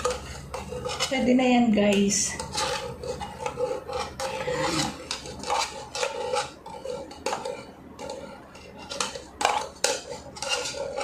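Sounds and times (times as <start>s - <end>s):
metal spoon scraping tin can: 0.0s - 11.0s.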